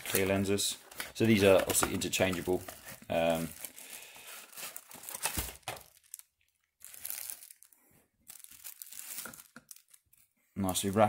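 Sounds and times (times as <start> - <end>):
plastic and paper crinkling: 0.0 - 11.0.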